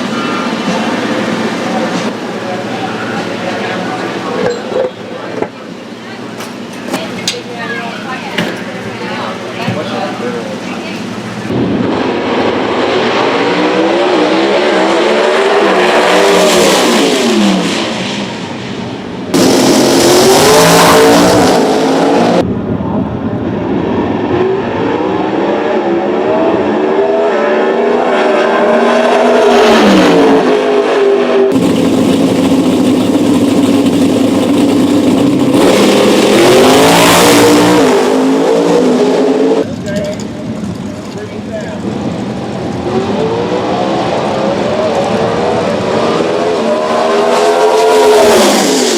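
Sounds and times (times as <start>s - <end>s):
drag racing cars at full throttle: 0.0s - 48.9s.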